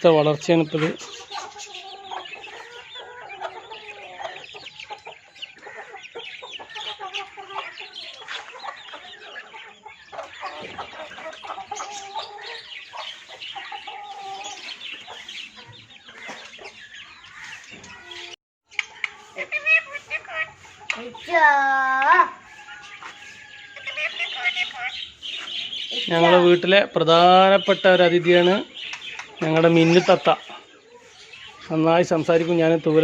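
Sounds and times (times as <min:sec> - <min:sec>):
chickens clucking: 0:00.0 - 0:33.0
chicks cheeping: 0:00.0 - 0:33.0.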